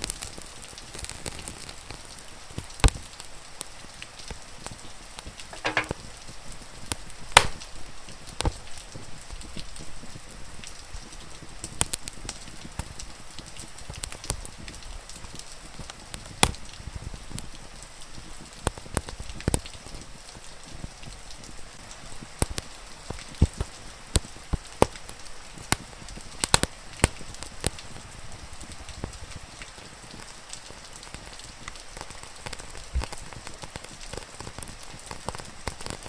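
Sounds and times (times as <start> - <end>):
rain hissing: 0.0 - 36.0
wood fire crackling: 0.0 - 36.0.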